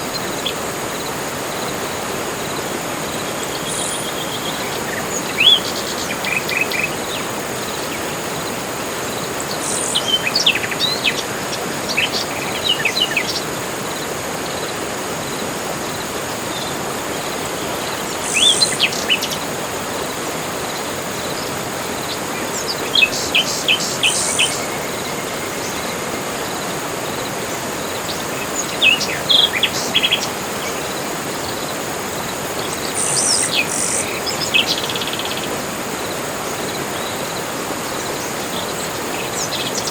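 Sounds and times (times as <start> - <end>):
constant hiss: 0.0 - 39.9
high insect drone: 0.0 - 39.9.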